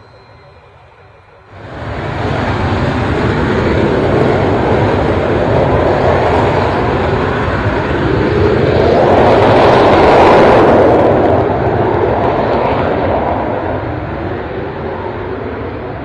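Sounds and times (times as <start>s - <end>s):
jet engine at takeoff power: 0.0s - 16.0s.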